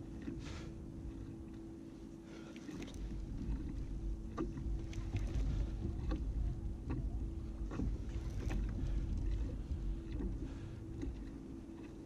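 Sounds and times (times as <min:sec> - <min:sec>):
wind rumble on microphone: 0:00.0 - 0:02.0, 0:02.7 - 0:12.0
faint steady hum: 0:00.0 - 0:12.0.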